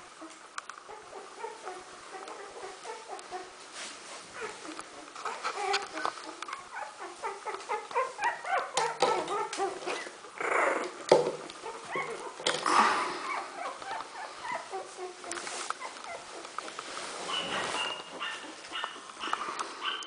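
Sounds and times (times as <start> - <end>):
puppies squeaking and whimpering: 0.9 - 3.6, 4.2 - 20.0.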